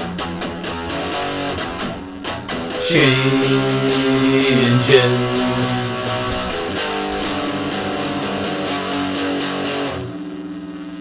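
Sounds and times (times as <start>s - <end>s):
strummed guitars with bass: 0.0s - 10.1s.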